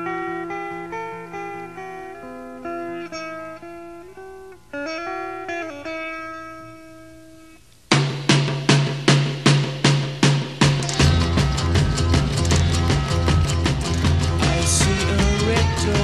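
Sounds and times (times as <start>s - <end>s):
guitar picking single notes: 0.0s - 7.6s, 10.6s - 16.0s.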